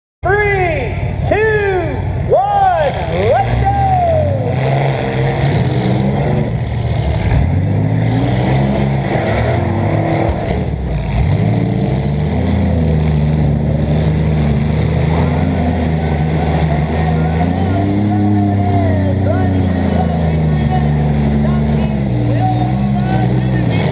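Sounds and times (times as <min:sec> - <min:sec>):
car engine revving: 0:02.0 - 0:23.9.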